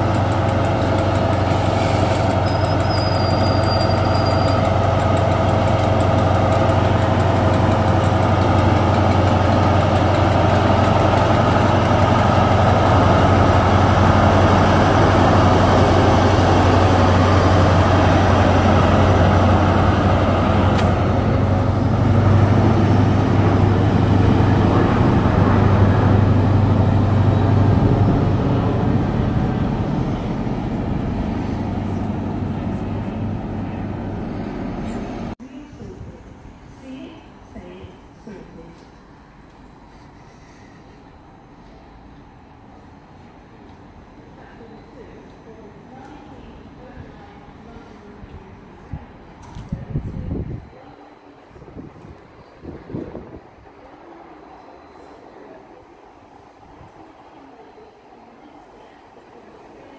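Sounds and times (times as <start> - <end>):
train diesel engine passing: 0.0 - 59.9.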